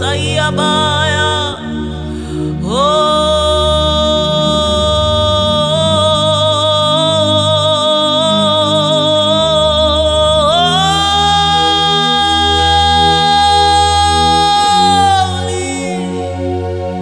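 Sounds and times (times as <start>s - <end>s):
person singing a long high note: 0.0s - 17.0s
sustained instrumental chords: 0.0s - 17.0s.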